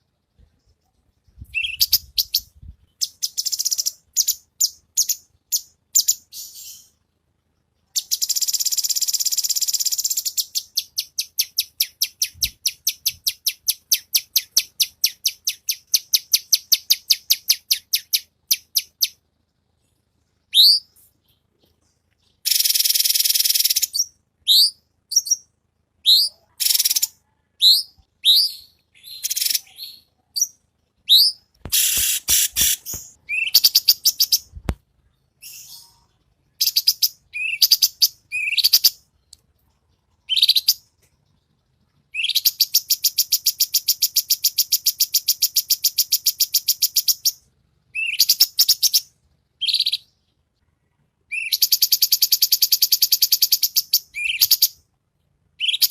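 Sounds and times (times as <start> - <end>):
bird singing high-pitched song: 0.3 - 7.0, 7.6 - 19.2, 19.8 - 50.4, 51.3 - 54.9, 55.6 - 55.9.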